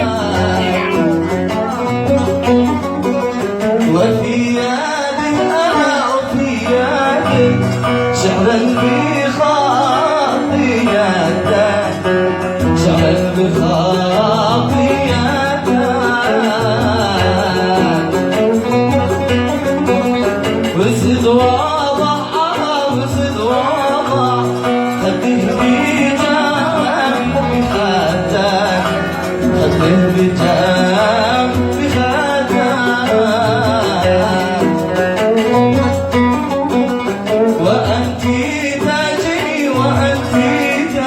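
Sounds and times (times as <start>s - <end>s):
man singing: 0.0s - 41.0s
oud playing: 0.0s - 41.0s.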